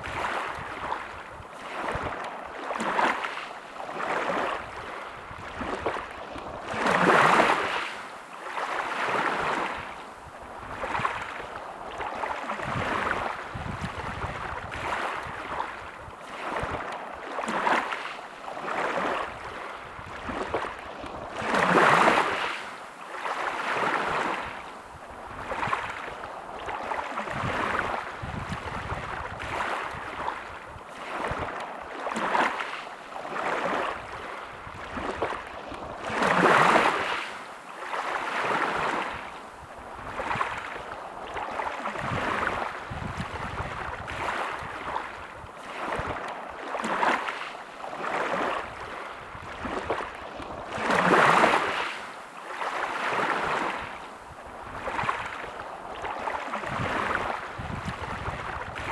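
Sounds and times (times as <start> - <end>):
sea waves washing onto beach: 0.0 - 58.9.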